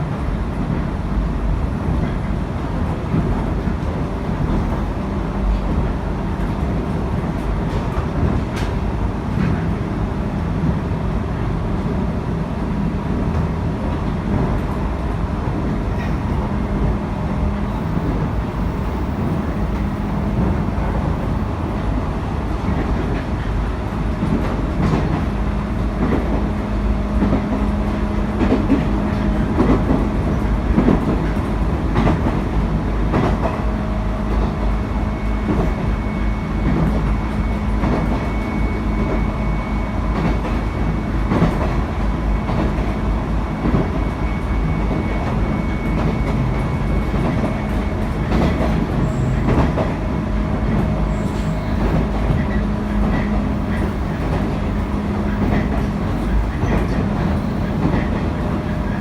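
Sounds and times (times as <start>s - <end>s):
electric train running at speed: 0.0s - 59.0s.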